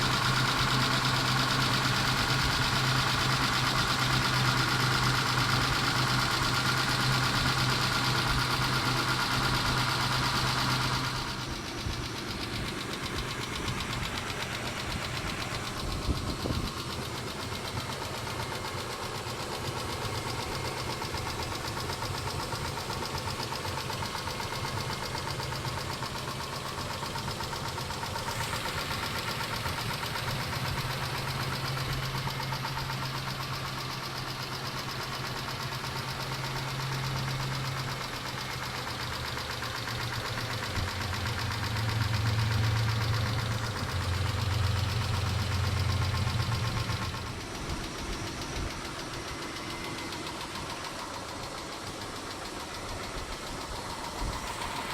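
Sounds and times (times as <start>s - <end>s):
engine idling with ticking: 0.0s - 54.9s.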